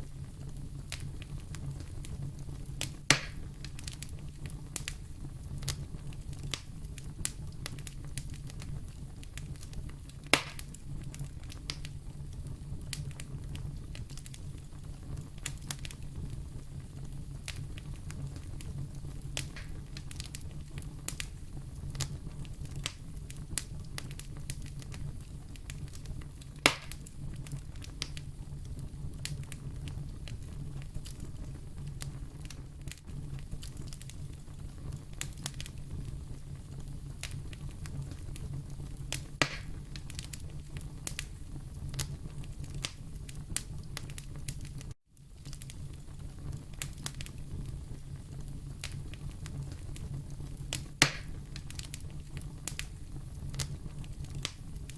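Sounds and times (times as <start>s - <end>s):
wood fire crackling: 0.0s - 54.9s
sharp fire pops: 0.2s - 54.9s.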